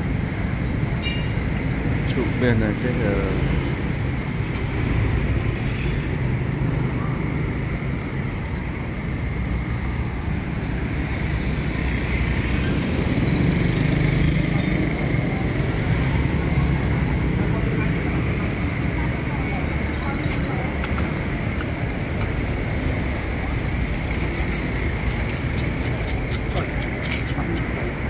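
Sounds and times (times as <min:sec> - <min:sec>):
street traffic drone: 0:00.0 - 0:28.0.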